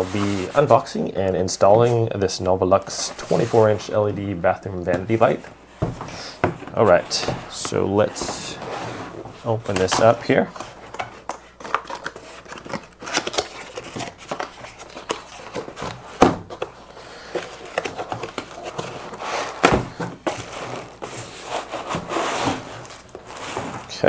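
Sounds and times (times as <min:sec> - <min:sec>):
cardboard scraping and rustling: 0:00.0 - 0:02.1, 0:02.8 - 0:24.0.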